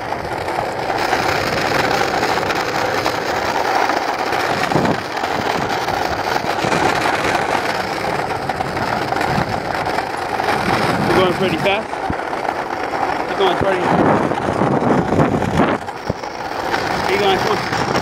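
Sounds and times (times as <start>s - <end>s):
wind on microphone: 0.0s - 12.2s, 13.2s - 18.0s
rushing and rumbling of movement: 0.0s - 18.0s.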